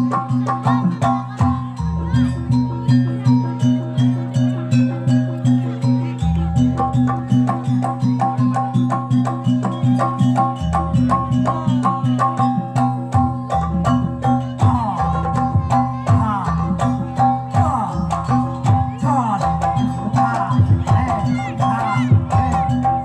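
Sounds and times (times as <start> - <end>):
gamelan percussion strikes: 0.0 - 23.0
ringing metallophone tones: 0.0 - 23.0.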